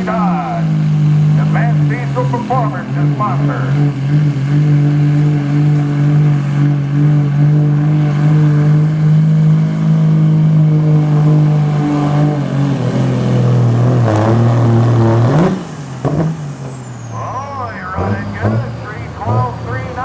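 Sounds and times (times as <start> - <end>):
diesel pickup engine at full throttle: 0.0 - 20.0.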